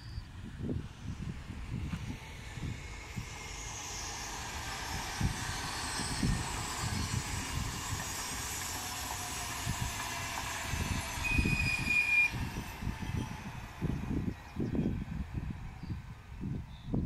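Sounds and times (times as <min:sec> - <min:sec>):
train rushing past: 0:00.0 - 0:16.7
low gusty rumbling: 0:00.0 - 0:17.0.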